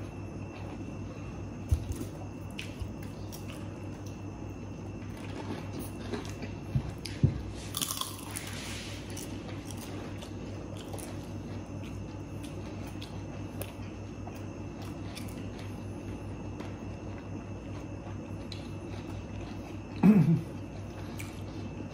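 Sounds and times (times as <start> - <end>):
crunchy crackle: 0.0 - 21.9
chewing fried snacks: 0.4 - 21.9.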